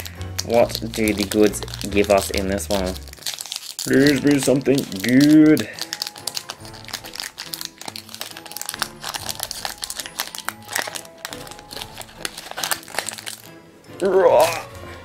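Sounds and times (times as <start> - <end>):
foil wrapper crinkling and tearing: 0.0 - 14.7
quiet background music: 0.0 - 15.0.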